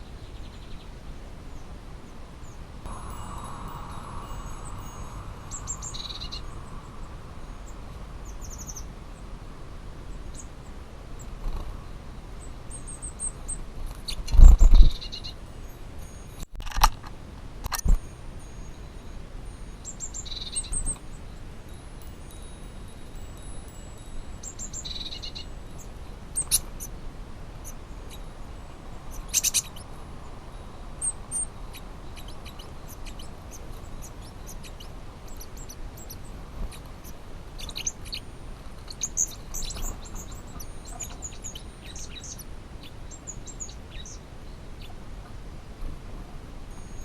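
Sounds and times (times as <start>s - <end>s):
small birds chirping: 0.0s - 16.4s, 17.8s - 47.0s
steady low background noise: 0.0s - 47.0s.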